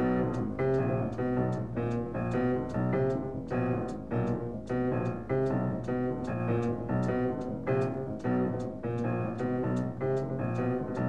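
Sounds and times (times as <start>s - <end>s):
jazz piano chords: 0.0s - 11.0s.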